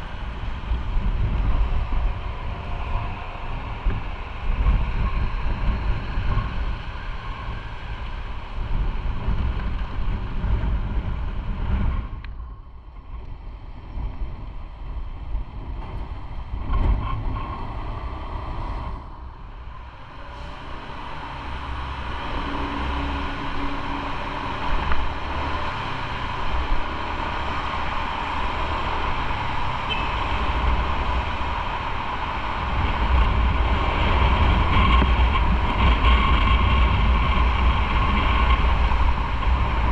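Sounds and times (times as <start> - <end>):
motorcycle engine rumble: 0.0 - 39.9
wind noise on microphone: 0.0 - 39.9.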